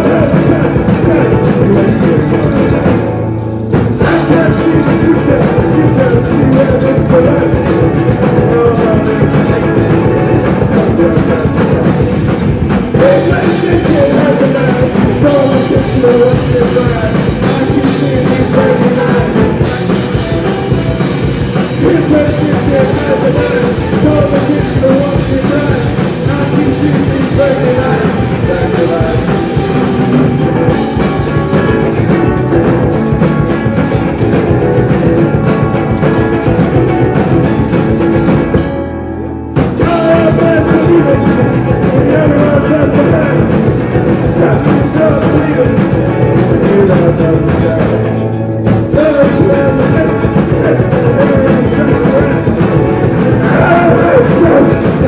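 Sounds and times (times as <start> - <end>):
drums: 0.0 - 55.0
electric guitars: 0.0 - 55.0
keyboard: 0.0 - 55.0.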